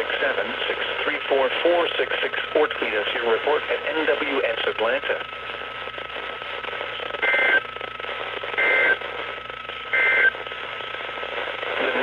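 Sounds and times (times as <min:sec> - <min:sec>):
radio static: 0:00.0 - 0:12.0.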